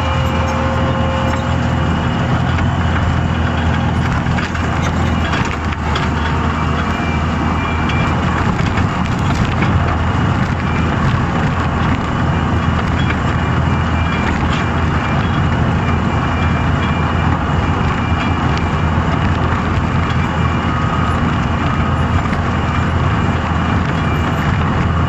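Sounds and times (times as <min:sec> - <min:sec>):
clanks and knocks: 0:00.0 - 0:25.0
loader engine running: 0:00.0 - 0:25.0.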